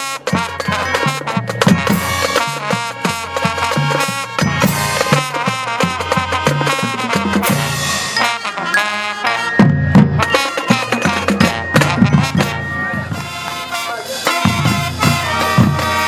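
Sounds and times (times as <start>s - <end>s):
snare and bass drums: 0.0s - 8.6s, 9.5s - 16.0s
marching band brass: 0.0s - 16.0s.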